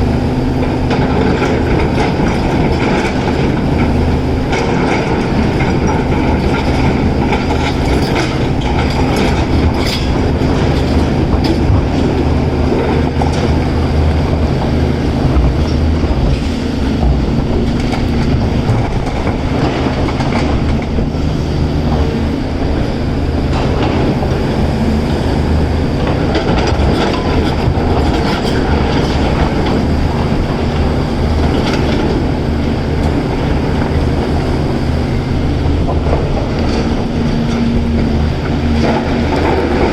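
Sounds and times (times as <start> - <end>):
heavy diesel machinery running: 0.0 - 39.9
rattling and clanking: 0.6 - 39.9.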